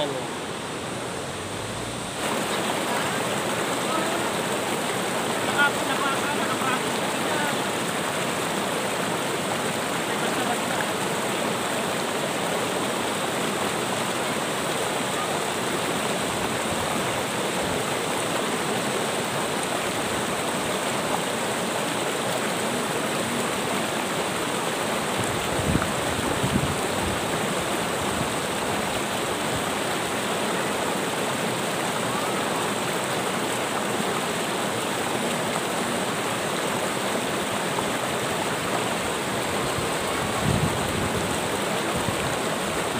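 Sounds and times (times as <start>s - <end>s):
river rushing over stones: 0.0s - 42.9s.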